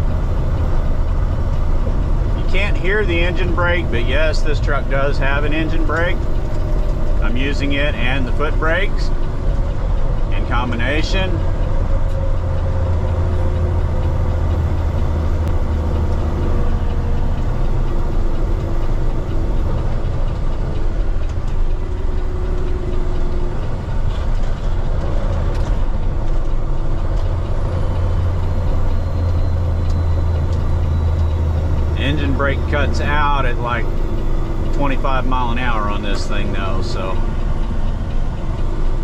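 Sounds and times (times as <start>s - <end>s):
diesel truck engine drone: 0.0s - 39.0s.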